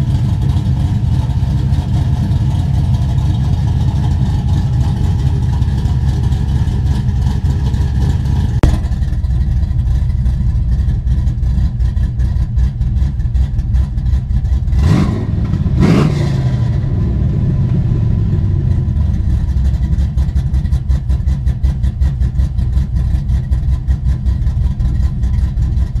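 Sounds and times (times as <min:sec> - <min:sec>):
car engine revving and idling: 0:00.0 - 0:26.0.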